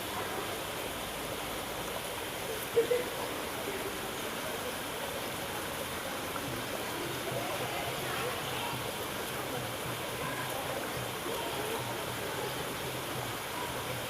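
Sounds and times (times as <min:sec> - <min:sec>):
running water at pool: 0:00.0 - 0:14.0.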